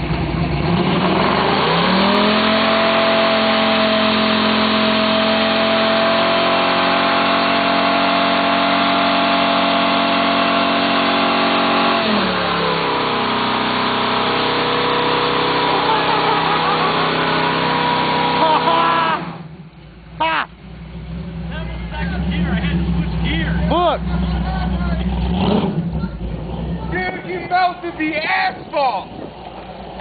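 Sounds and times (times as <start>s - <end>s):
engine revving high: 0.5s - 19.5s, 21.1s - 26.9s.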